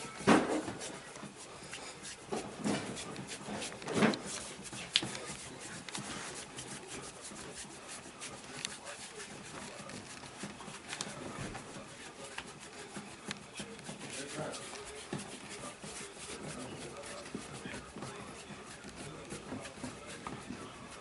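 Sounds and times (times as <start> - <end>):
hands rubbing during massage: 0.0 - 21.0.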